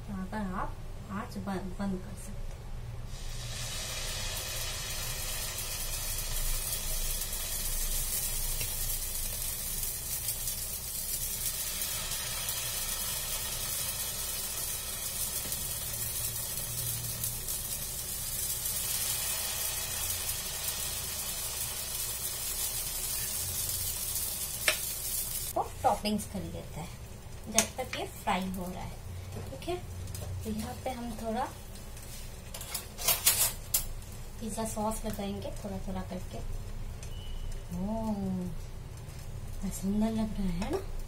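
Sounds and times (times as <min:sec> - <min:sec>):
batter sizzling in a frying pan: 0:03.0 - 0:41.0.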